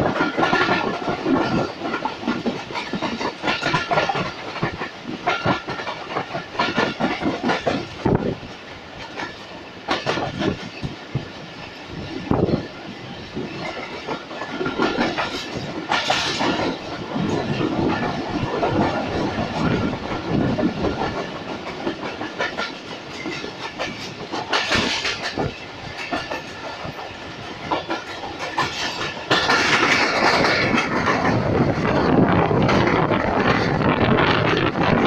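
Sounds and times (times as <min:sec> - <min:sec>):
clickety-clack over rail joints: 0:00.0 - 0:35.0
train wheels rumbling: 0:00.0 - 0:35.0.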